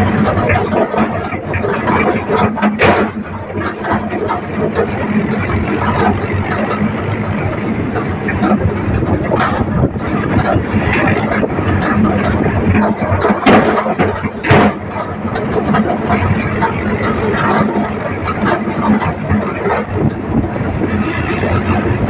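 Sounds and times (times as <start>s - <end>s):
rattles and knocks: 0.0s - 22.0s
tractor engine running: 0.0s - 22.0s.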